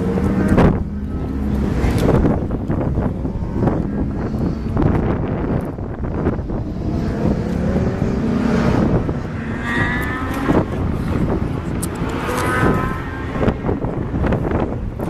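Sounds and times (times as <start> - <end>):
car engines running: 0.0 - 15.0
wind buffeting microphone: 0.0 - 15.0.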